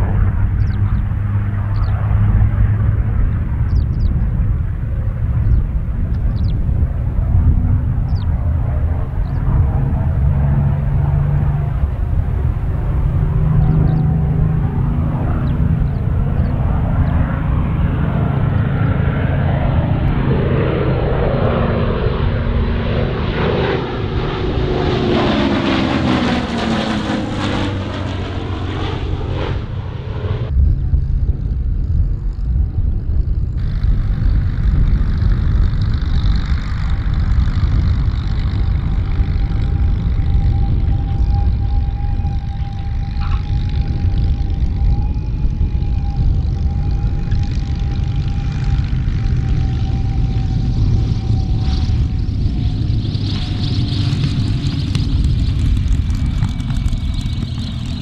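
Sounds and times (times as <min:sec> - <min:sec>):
aircraft engine running on ground: 0:00.0 - 0:58.0
propeller aircraft engine howl: 0:00.0 - 0:58.0.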